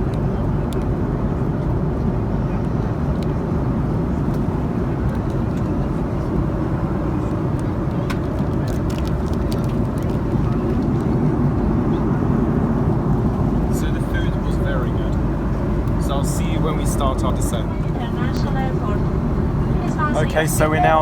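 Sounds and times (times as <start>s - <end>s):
airliner cabin engine and airflow noise: 0.0s - 21.0s.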